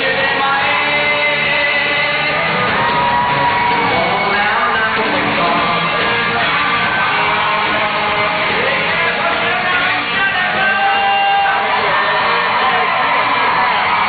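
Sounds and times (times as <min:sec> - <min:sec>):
guitar: 0:00.0 - 0:14.0
live band playing pop: 0:00.0 - 0:14.0.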